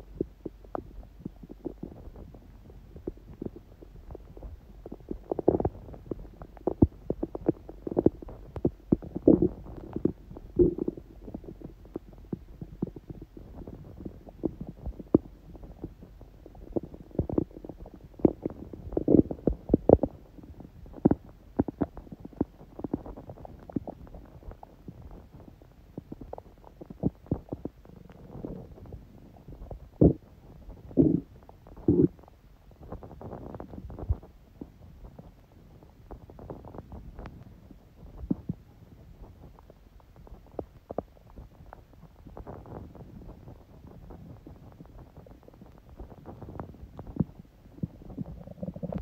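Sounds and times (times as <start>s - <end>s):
stomach gurgling: 0.0s - 49.0s.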